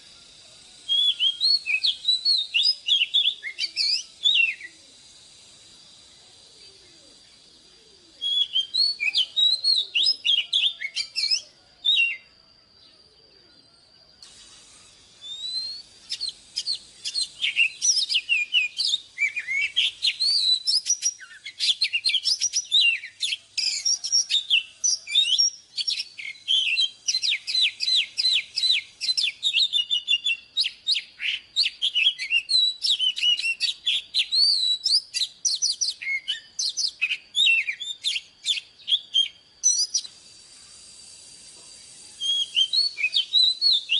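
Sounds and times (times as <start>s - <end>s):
bird singing whistles and chirps: 0.0s - 43.9s.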